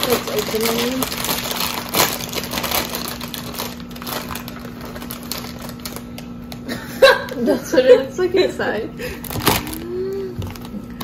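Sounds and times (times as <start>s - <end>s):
chip bag crinkling: 0.0s - 7.4s, 9.2s - 11.0s.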